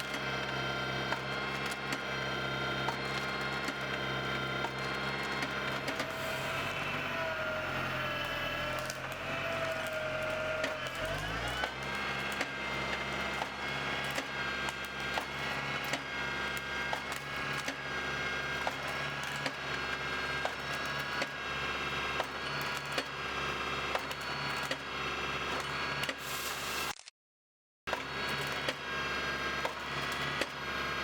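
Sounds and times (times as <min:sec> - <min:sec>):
tractor engine running: 0:00.0 - 0:26.3.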